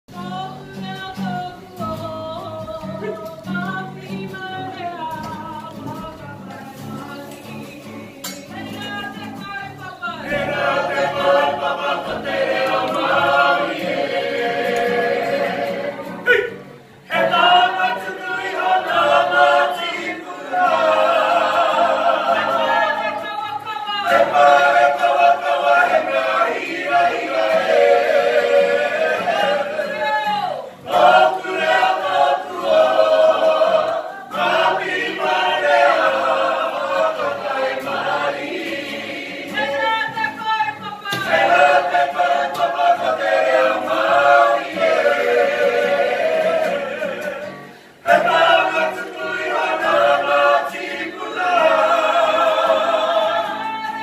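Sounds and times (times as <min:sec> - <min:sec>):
choir singing in harmony: 0:05.8 - 0:54.0.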